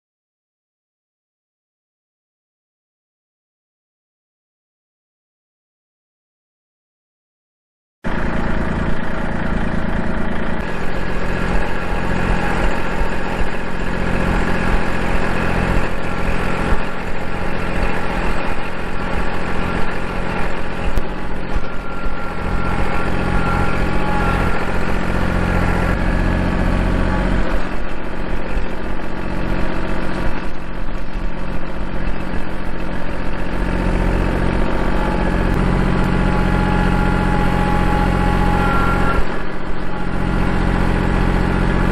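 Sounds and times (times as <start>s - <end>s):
tractor diesel engine running: 8.0s - 41.9s.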